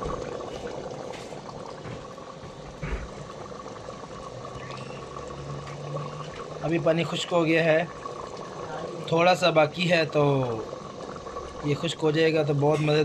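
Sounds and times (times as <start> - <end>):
curry bubbling in a pot: 0.0 - 13.0.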